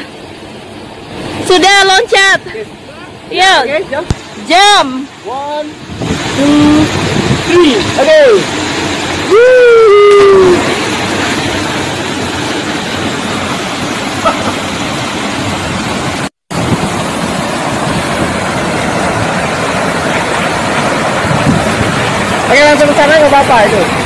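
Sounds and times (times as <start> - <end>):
waterfalls rushing into river: 0.0 - 24.0.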